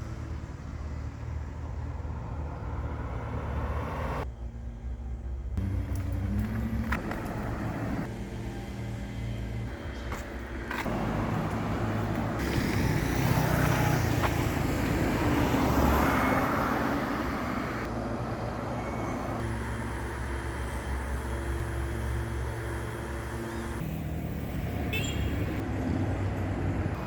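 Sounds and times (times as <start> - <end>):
road and tyre noise: 0.0 - 27.0.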